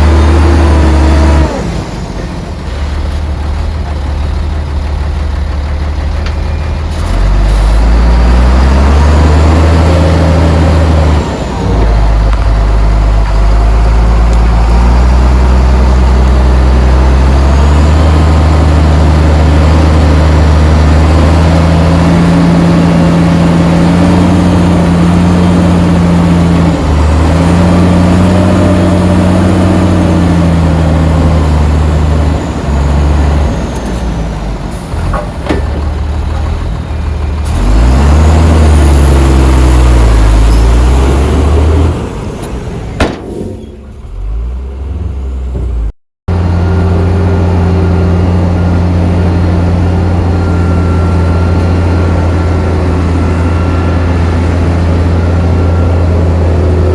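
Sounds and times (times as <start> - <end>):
heavy diesel engine revving: 0.0 - 56.9.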